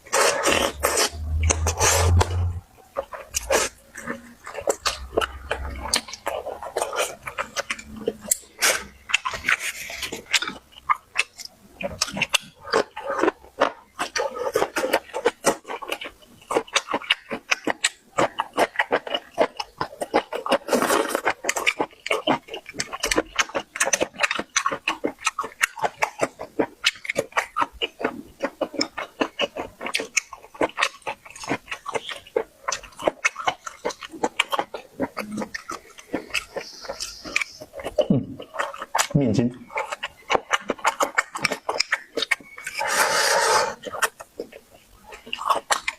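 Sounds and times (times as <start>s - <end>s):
person chewing and lip-smacking: 0.0s - 45.9s.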